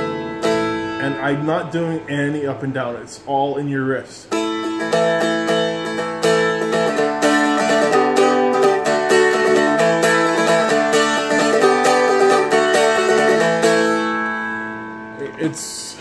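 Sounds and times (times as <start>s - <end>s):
strummed guitar: 0.0s - 3.0s, 4.2s - 16.0s.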